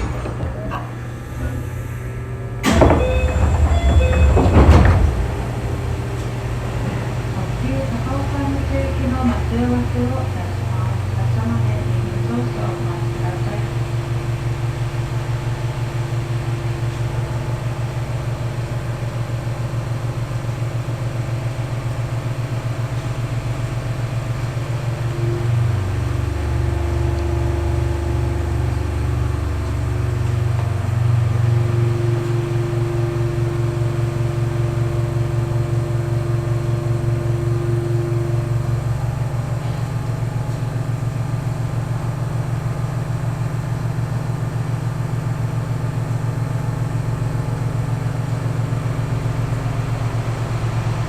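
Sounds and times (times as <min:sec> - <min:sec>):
steady train motor tone: 0:00.0 - 0:51.0
train wheels rumbling: 0:00.0 - 0:51.0.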